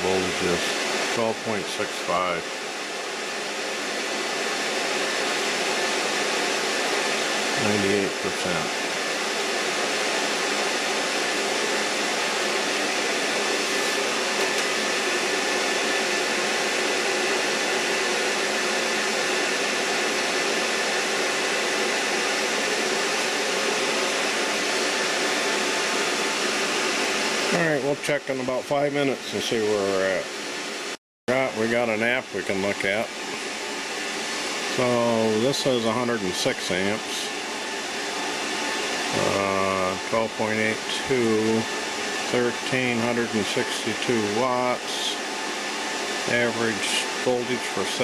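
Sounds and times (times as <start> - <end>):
fan heater whirring: 0.0 - 48.0
inverter cooling fan: 0.0 - 48.0.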